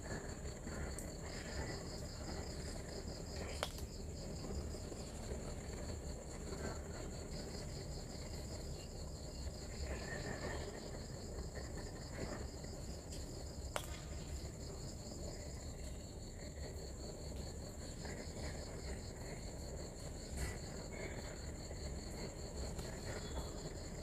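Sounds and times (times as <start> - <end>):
night insects trilling: 0.0 - 24.0.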